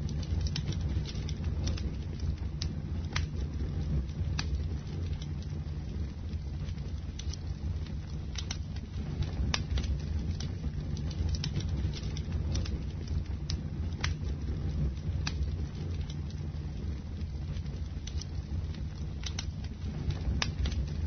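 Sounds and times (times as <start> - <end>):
bonfire flames rushing: 0.0 - 21.0
burning wood crackling and popping: 0.0 - 21.0.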